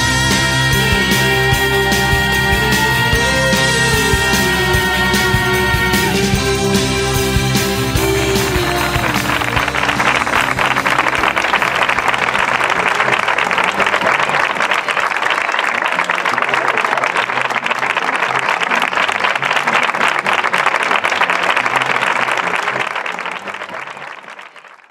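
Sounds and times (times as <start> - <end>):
crowd applauding: 0.0 - 24.9.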